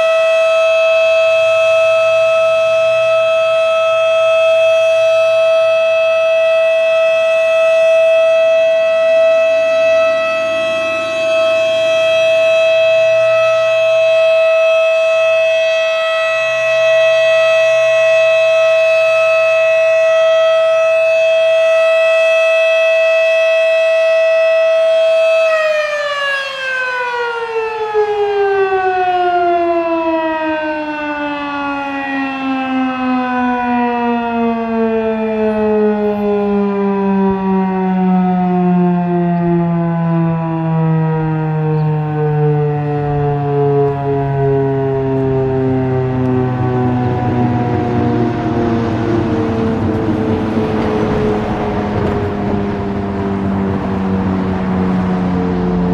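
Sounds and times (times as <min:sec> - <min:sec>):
warning siren steady tone: 0:00.0 - 0:55.9.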